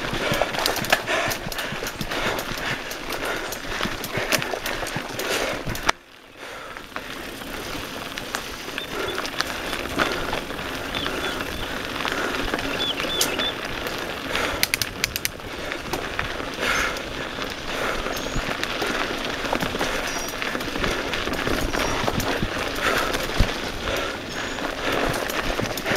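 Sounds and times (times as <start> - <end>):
bike rattling and knocking: 0.0 - 25.9
bike tyres rolling on dirt and stones: 0.0 - 25.9.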